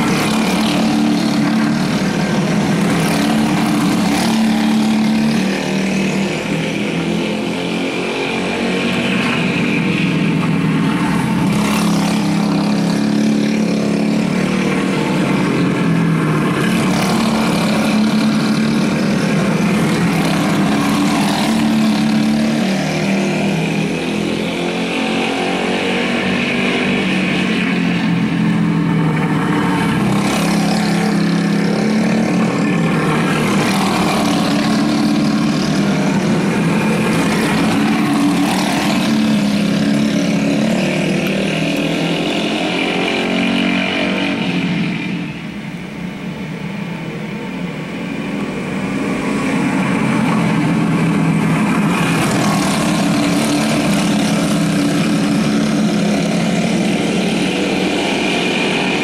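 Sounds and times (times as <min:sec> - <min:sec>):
go-kart engines racing: 0:00.0 - 0:59.0.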